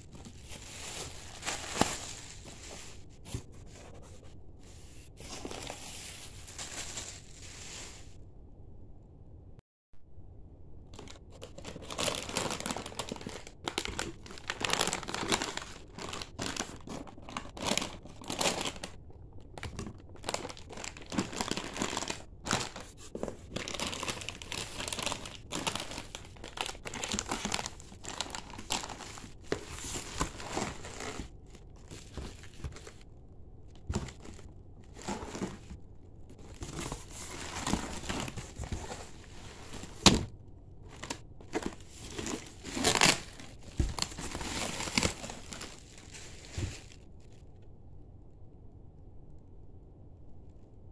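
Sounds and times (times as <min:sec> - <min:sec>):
plastic packaging crinkling: 0:00.0 - 0:04.2, 0:04.8 - 0:08.2, 0:11.0 - 0:33.1, 0:33.8 - 0:47.4.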